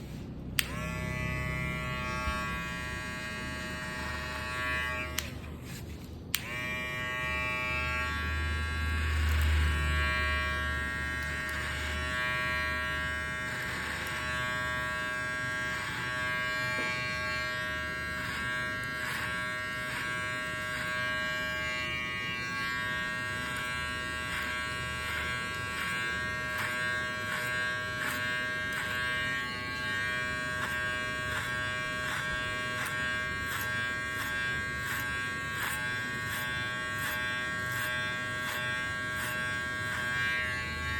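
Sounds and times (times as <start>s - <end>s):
electric hair clipper humming: 0.0s - 40.9s.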